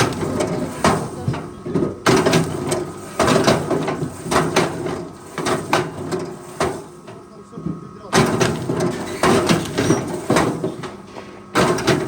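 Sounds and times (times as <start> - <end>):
machine engine running: 0.0 - 10.8.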